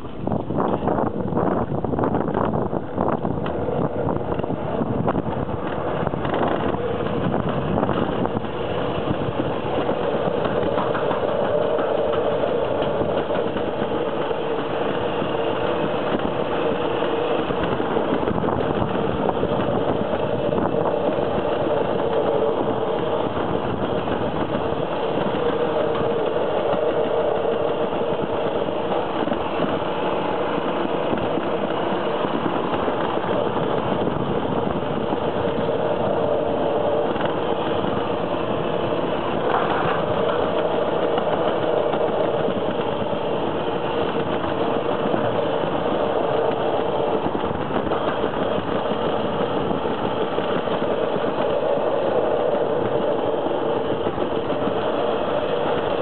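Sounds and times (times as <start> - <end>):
sled rolling on metal track: 0.0 - 56.0.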